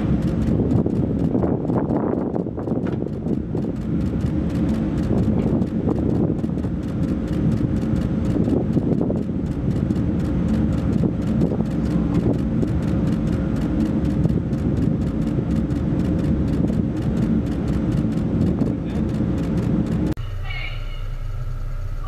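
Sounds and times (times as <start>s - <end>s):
wind-like noise: 0.0s - 20.2s
steady low rumble: 0.0s - 22.0s.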